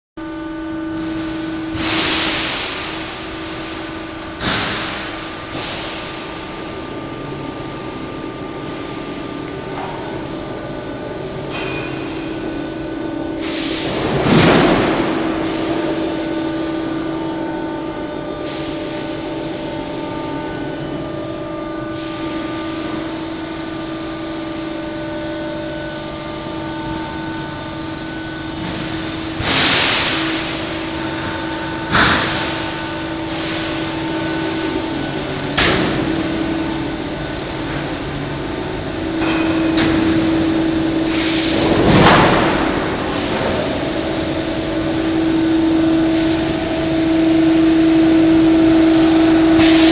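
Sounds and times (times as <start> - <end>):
machine hum: 0.2 - 49.9.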